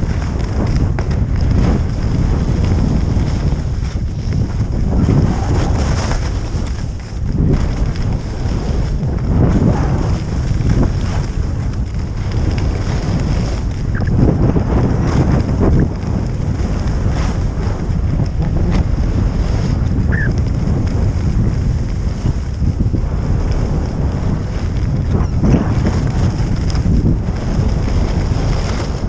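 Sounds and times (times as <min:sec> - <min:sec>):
heavy wind buffeting microphone: 0:00.0 - 0:29.0
ski edges scraping snow: 0:00.0 - 0:29.0.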